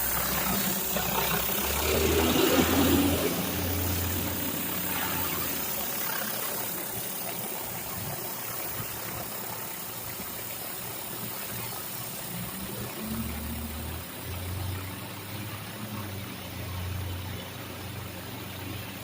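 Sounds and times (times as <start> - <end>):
pressure washer engine drone: 0.0 - 19.0
water spraying onto concrete: 0.0 - 19.0.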